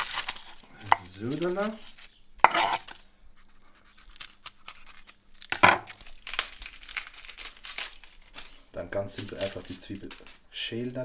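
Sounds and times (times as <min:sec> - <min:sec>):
onion skin being peeled: 0:00.0 - 0:10.5.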